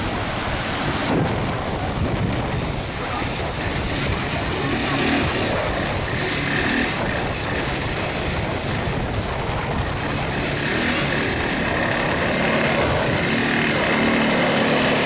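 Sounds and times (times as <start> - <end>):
surf rushing: 0.0 - 15.0
quad bike engine under load: 1.0 - 15.0.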